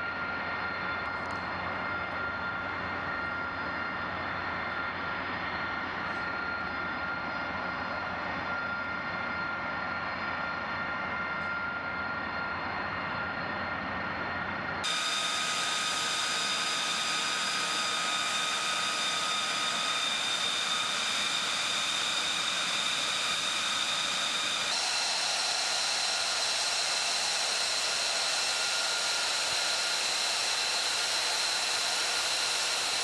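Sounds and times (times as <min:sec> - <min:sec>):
aircraft turbine whine: 0:00.0 - 0:33.0.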